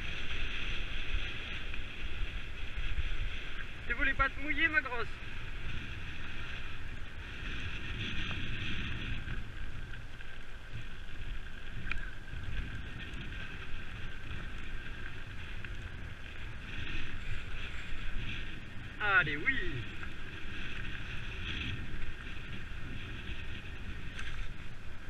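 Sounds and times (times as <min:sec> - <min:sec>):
bike tyres on gravel: 0:00.0 - 0:25.0
wind buffeting microphone: 0:00.0 - 0:25.0.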